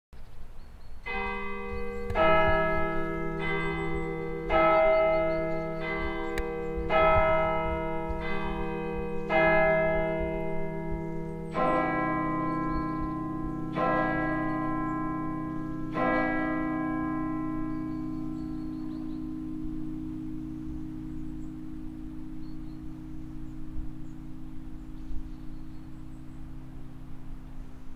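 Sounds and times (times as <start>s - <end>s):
church bells chiming: 1.0s - 27.9s
deep hour bell striking: 1.0s - 27.9s.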